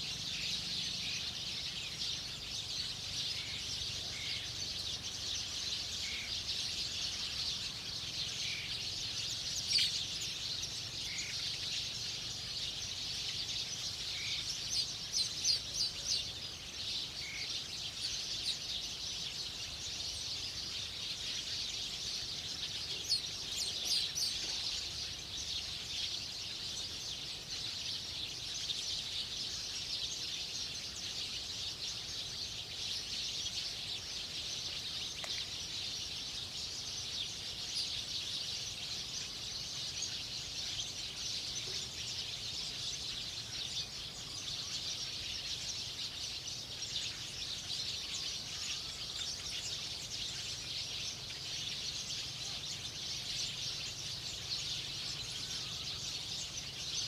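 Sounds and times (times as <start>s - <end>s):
wild birds chirping: 0.0s - 57.0s.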